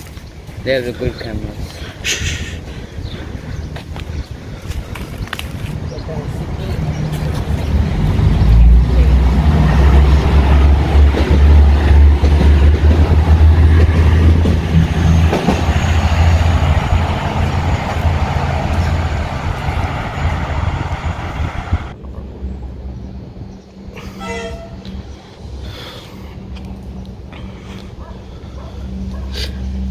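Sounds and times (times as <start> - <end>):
diesel railcar rumble: 0.0 - 29.9
wheel and rail noise: 0.0 - 29.9.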